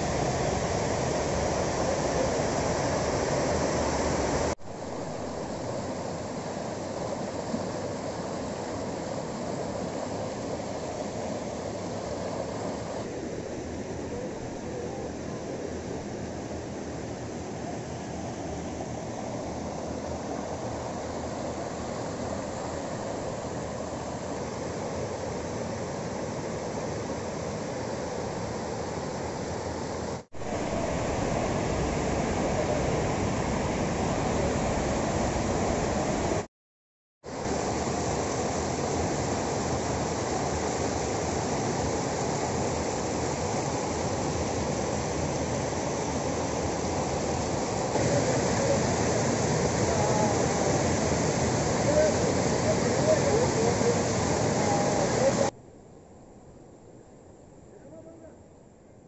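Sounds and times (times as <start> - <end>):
floodwater rushing: 0.0 - 36.5, 37.3 - 55.5.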